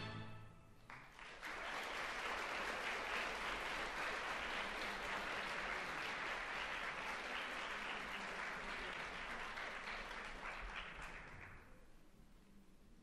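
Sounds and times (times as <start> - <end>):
audience applause: 0.9 - 11.8.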